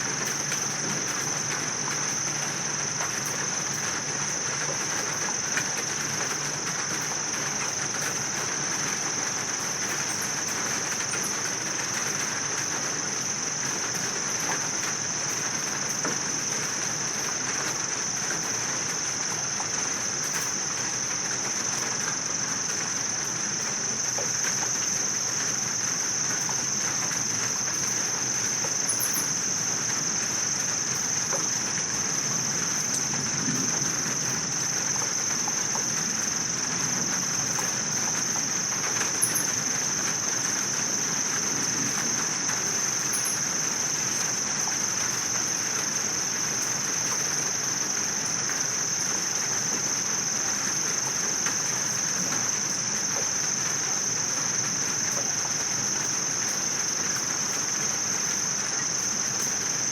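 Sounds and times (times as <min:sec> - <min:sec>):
crickets chirping: 0:00.0 - 0:59.9
steady rain hiss: 0:00.0 - 0:59.9.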